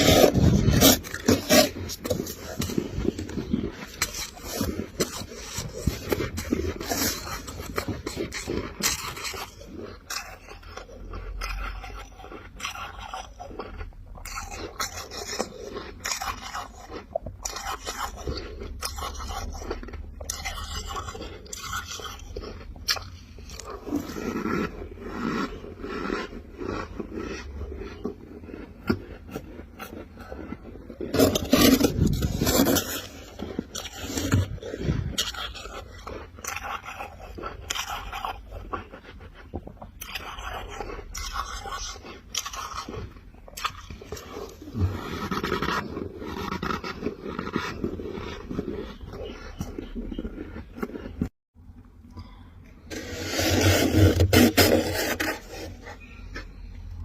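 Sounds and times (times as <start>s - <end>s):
spoon scraping frost: 0.0s - 51.3s, 52.8s - 56.7s
crunching frost being chewed: 0.0s - 57.0s.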